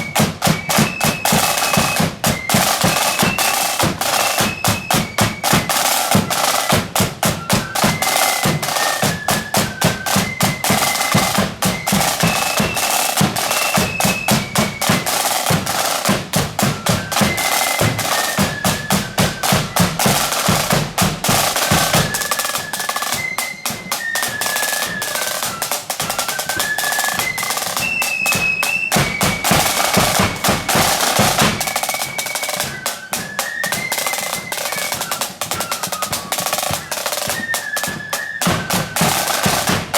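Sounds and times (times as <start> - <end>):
flute melody: 0.0 - 39.9
snare drum rolls: 0.0 - 39.9.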